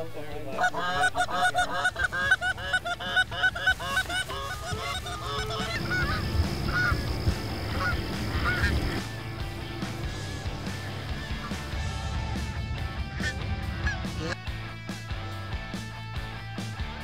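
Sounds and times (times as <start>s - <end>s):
geese honking: 0.2s - 14.5s.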